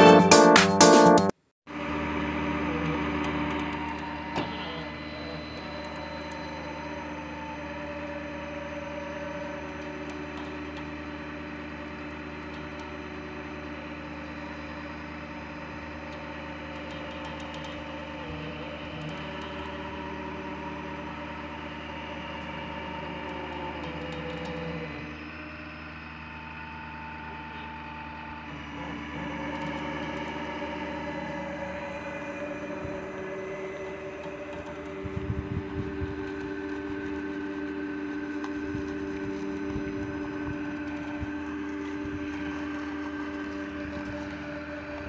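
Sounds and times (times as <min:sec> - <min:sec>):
winch hum: 0:00.0 - 0:45.0
tow truck engine running: 0:01.7 - 0:45.0.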